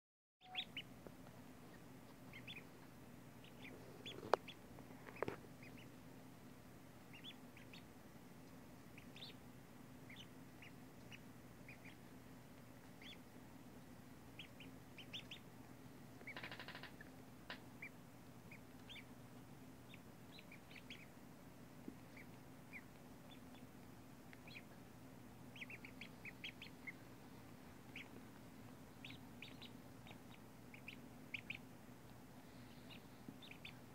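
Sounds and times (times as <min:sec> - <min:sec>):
ducklings peeping: 0:00.4 - 0:33.9
steady low hum: 0:00.5 - 0:33.9.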